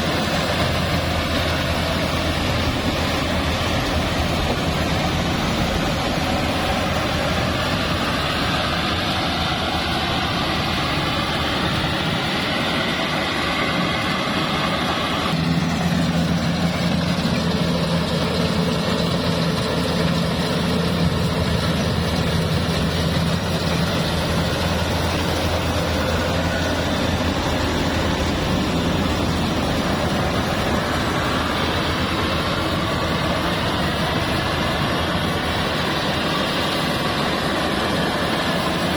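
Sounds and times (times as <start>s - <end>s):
rice thresher running: 0.0s - 38.9s.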